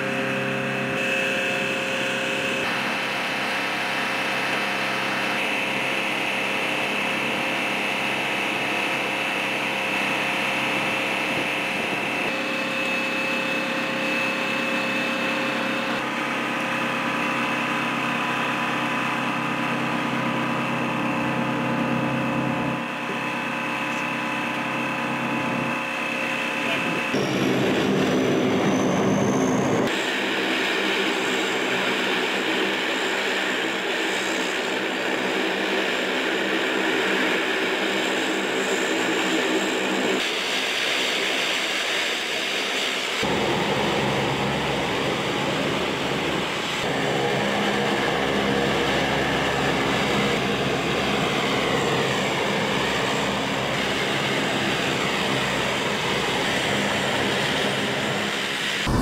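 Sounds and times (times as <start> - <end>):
turboprop engines droning: 0.0 - 59.0.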